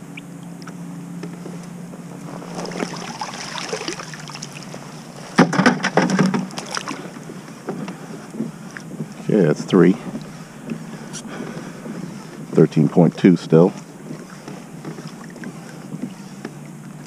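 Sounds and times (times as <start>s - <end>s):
water and gear noise: 0.0s - 17.0s.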